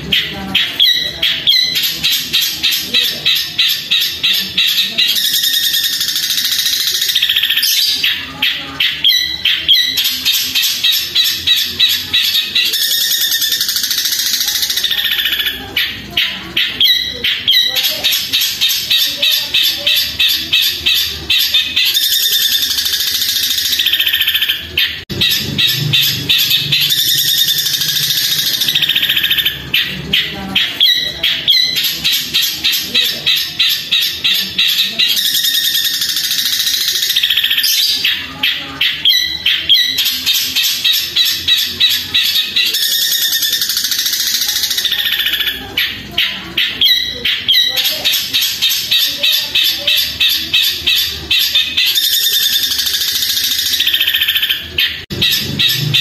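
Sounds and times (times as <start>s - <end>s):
shrike singing rapid chattering notes: 0.0s - 56.0s.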